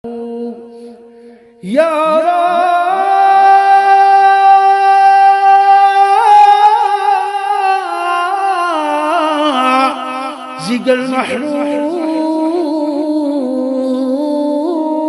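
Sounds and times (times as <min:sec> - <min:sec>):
person singing unaccompanied: 0:00.0 - 0:01.0, 0:01.6 - 0:15.0.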